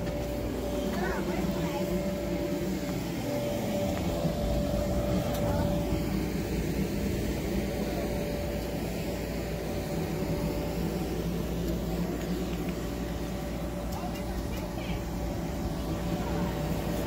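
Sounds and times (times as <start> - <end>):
electric blower fan humming: 0.0 - 17.0.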